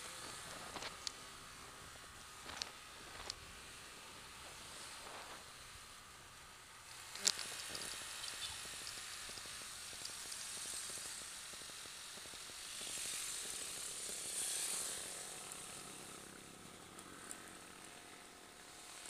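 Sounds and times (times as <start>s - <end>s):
muffled motorcycle ride: 0.0s - 19.0s.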